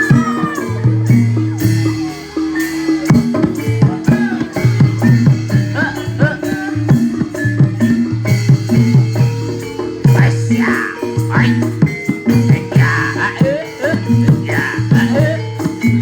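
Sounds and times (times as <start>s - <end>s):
drums: 0.0s - 16.0s
struck metallophones: 0.0s - 16.0s.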